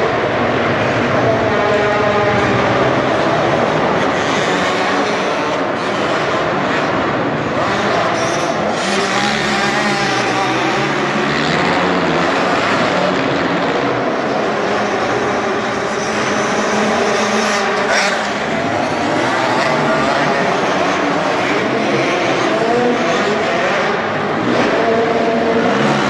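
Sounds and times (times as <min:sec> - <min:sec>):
quad engine revving: 0:00.0 - 0:26.0.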